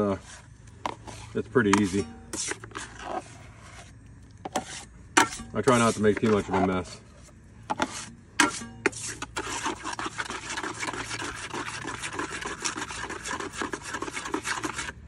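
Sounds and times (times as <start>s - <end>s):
taping knife scraping metal pan: 0.1s - 3.9s, 4.5s - 15.0s.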